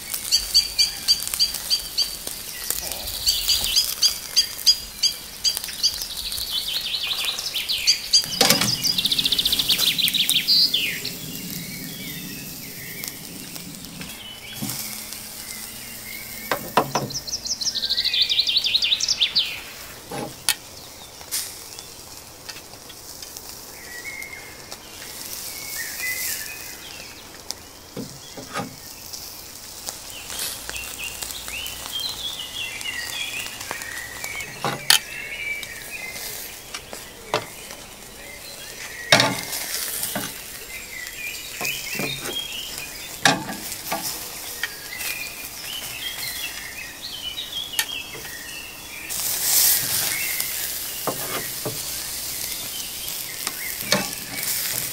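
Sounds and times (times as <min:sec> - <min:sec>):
meat sizzling on a grill: 0:00.0 - 0:54.9.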